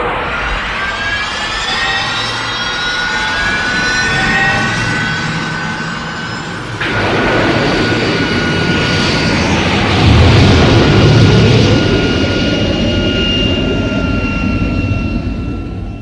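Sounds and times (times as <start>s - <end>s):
high gliding whining tones: 0.0s - 16.0s.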